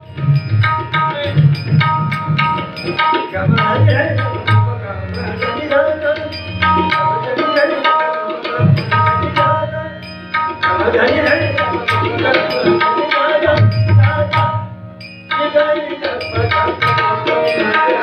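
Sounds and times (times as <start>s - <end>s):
high tuned drum ringing: 0.0s - 18.0s.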